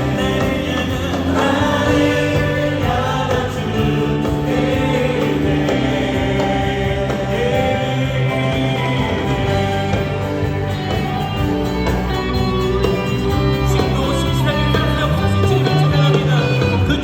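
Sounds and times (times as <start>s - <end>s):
bass guitar: 0.0s - 17.0s
drums: 0.0s - 17.0s
electric guitar: 0.0s - 17.0s
keyboard: 0.0s - 17.0s.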